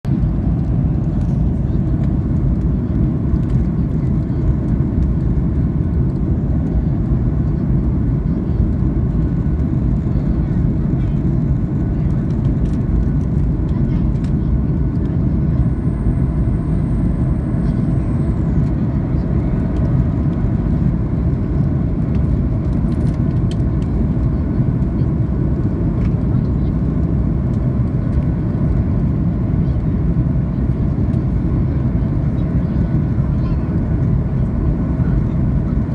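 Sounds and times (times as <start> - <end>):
jet engine rumble: 0.0 - 35.9.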